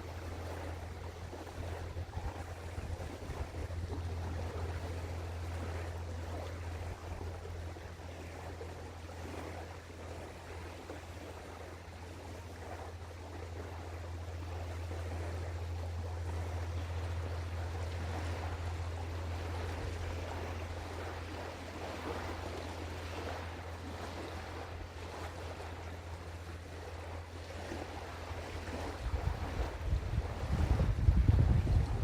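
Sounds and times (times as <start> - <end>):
deep ship engine drone: 0.0 - 32.0
rushing water wash: 0.0 - 32.0
wind: 0.0 - 32.0.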